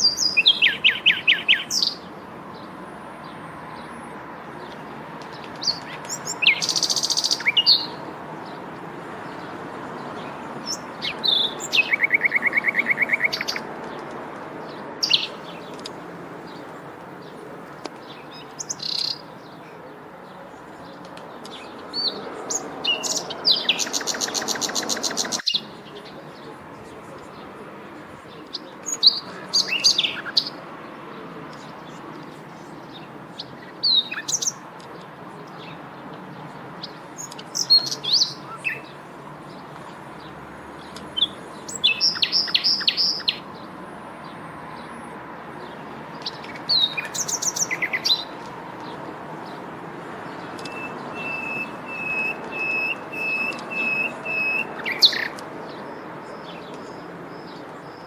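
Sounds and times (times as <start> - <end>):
birds chirping and calling: 0.0 - 58.0
outdoor background hiss: 0.0 - 58.0.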